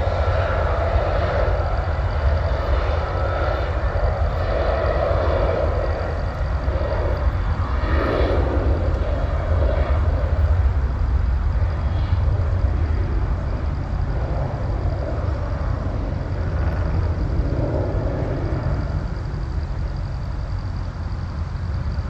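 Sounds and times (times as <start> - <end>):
faint high engine whine: 0.0 - 22.0
jet engines rumbling: 0.0 - 22.0.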